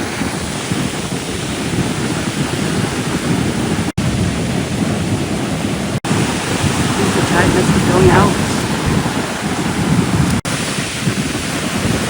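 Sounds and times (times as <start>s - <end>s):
surf washing on beach: 0.0s - 12.0s
wind buffeting microphone: 0.0s - 12.0s.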